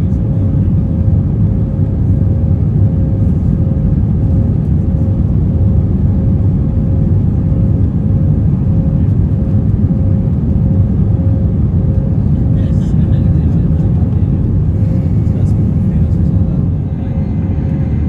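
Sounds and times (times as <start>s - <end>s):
aircraft cabin engine rumble: 0.0s - 18.0s
faint constant hum: 0.0s - 18.0s.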